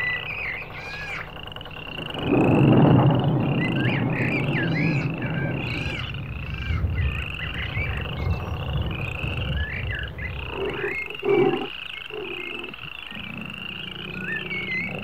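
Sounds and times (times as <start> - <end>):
curling chirps: 0.0 - 15.0
frogs trilling: 0.0 - 15.0
loud low frog call: 0.0 - 15.0
low rumble: 0.0 - 15.0.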